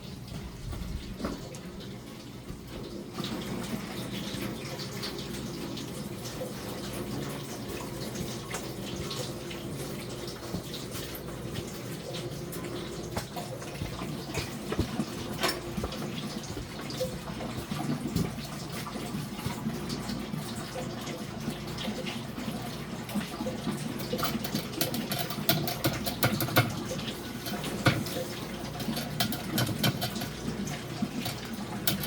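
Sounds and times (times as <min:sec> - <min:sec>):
water running: 0:00.0 - 0:32.0
small splashes and clicks: 0:00.3 - 0:32.0.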